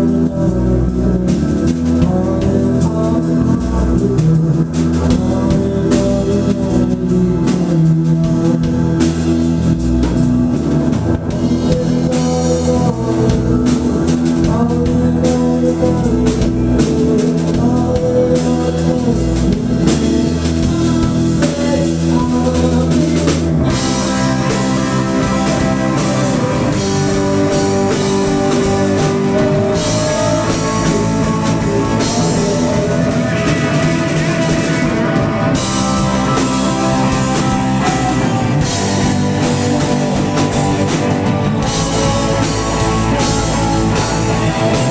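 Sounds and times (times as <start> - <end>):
bass guitar: 0.0 - 44.9
drum kit: 0.0 - 44.9
electric guitar: 0.0 - 44.9
faint vocals: 0.0 - 44.9
keyboards: 0.0 - 44.9.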